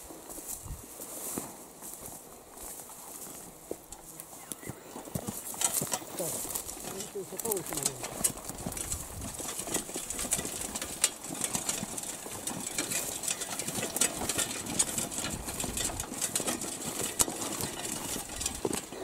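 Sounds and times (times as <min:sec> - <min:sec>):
footsteps on gravel: 0:00.0 - 0:19.0
handcart rolling over gravel: 0:00.0 - 0:19.0.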